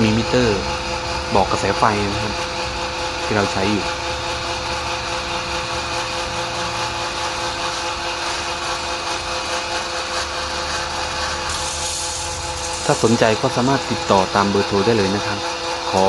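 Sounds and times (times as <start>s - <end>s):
motor hum: 0.0s - 16.0s
pellet mill grinding: 0.0s - 16.0s.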